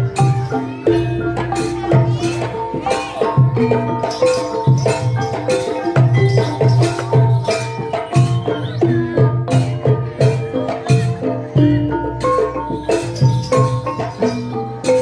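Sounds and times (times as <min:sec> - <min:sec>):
gamelan metal keys ringing: 0:00.0 - 0:15.0.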